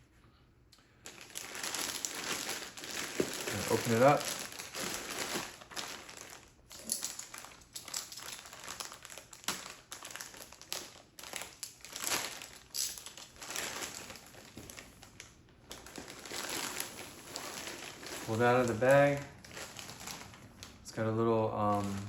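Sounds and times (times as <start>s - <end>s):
plastic bag crinkling: 1.0s - 22.0s.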